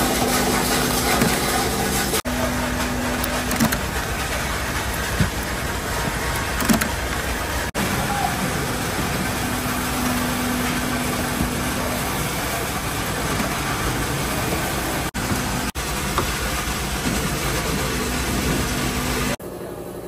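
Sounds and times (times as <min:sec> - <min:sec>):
electric workshop machine running: 0:00.0 - 0:20.0.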